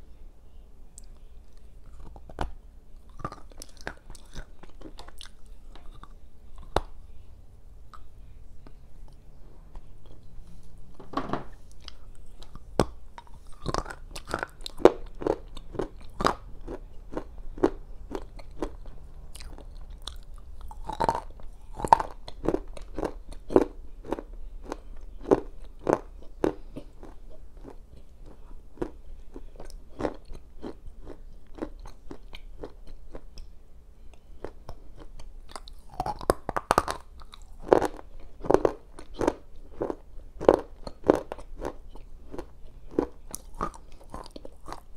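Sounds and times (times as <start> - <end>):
crunching and chewing clay: 1.0 - 7.0, 11.7 - 33.5, 34.1 - 44.9.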